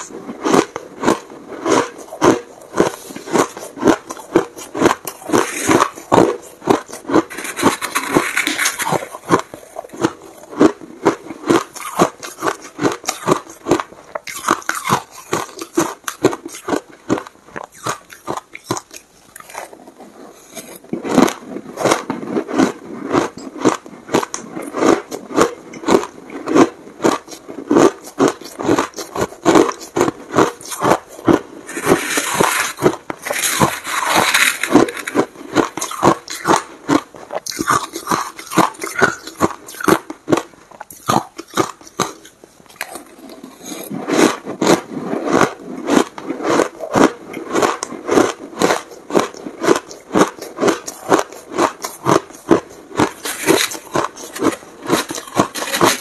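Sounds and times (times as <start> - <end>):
chewing crushed ice: 0.0 - 56.0.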